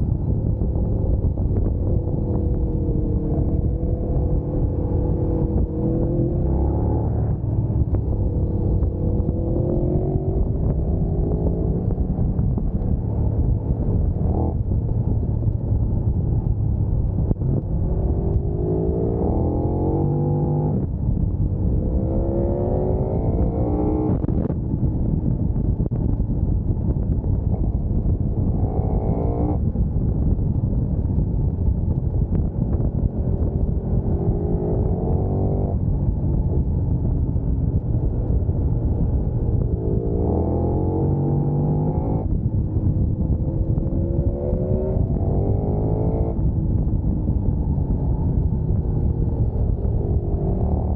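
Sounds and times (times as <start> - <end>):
motorcycle engine accelerating: 0.0 - 50.9
wind noise: 0.0 - 50.9.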